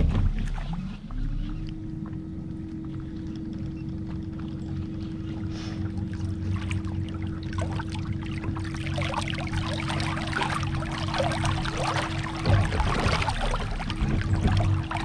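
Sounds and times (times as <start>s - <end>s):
electric motor whine and hum: 0.0s - 12.8s
water splashing: 0.0s - 15.0s.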